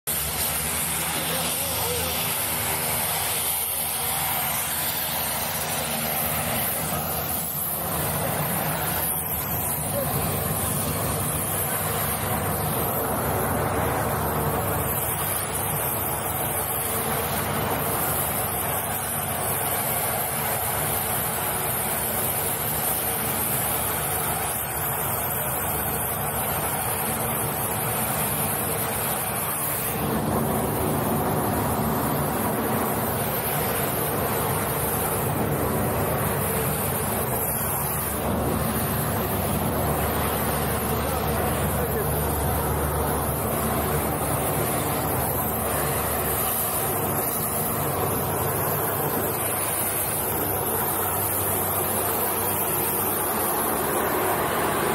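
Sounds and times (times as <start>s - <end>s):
aircraft engines droning: 0.1s - 54.9s
people talking: 0.9s - 20.7s, 24.0s - 54.9s.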